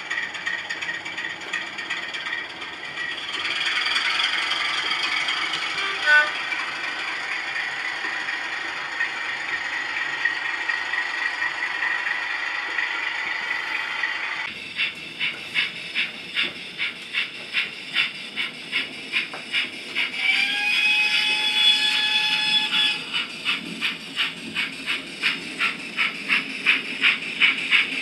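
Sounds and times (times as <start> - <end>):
model locomotive steam chuffs: 0.0 - 28.0.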